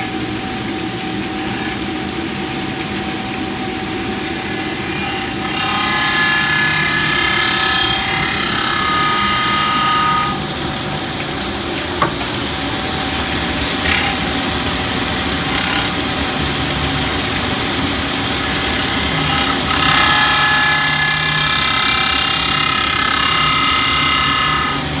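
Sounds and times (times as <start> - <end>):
band saw grinder running: 0.6 - 25.0.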